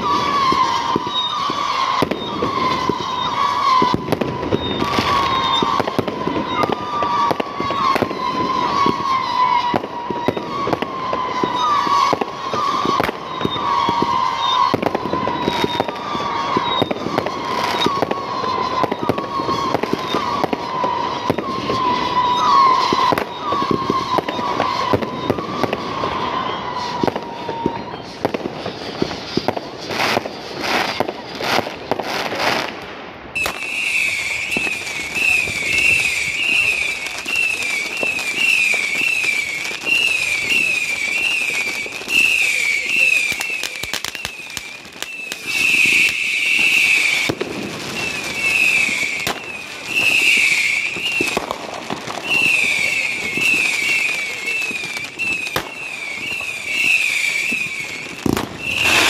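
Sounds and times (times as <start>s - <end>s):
wavering whistle-like tone: 0.0s - 31.9s, 33.4s - 47.3s, 47.9s - 51.4s, 52.1s - 59.0s
fireworks bangs and crackling: 0.0s - 59.0s.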